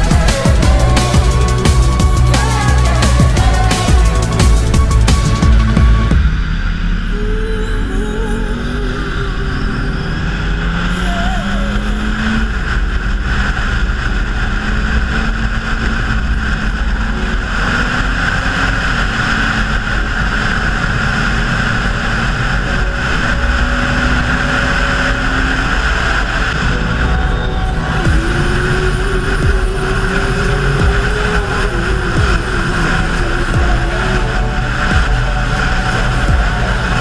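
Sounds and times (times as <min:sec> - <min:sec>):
motorcycle engine running: 0:00.0 - 0:37.0
rushing wind noise: 0:00.0 - 0:37.0.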